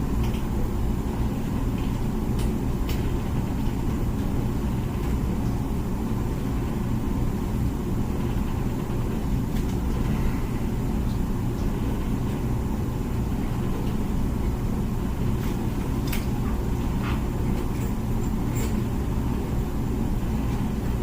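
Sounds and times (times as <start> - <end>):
dishwasher pump rumbling: 0.0 - 21.0.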